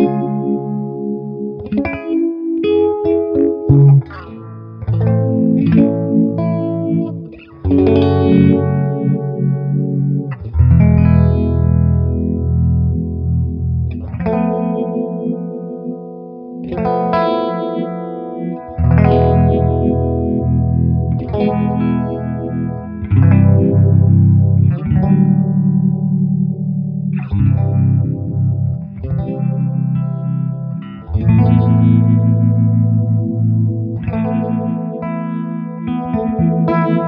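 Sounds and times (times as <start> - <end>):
electric guitar chords with phaser: 0.0 - 37.0.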